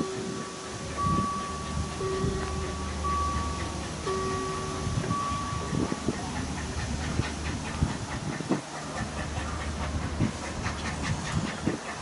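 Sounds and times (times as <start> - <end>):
steam hissing: 0.0 - 12.0
steam locomotive chugging: 0.0 - 12.0.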